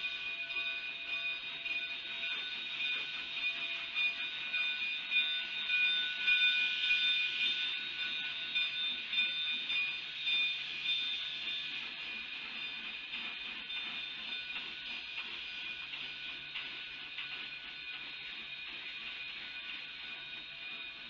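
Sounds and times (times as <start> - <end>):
steam hiss: 0.0 - 21.0
steam train high-pitched whine: 0.0 - 21.0.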